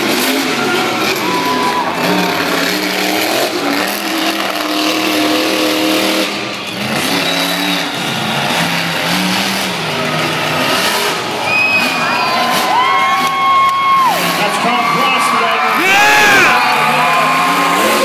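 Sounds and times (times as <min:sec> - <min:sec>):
monster truck engines revving: 0:00.0 - 0:18.0.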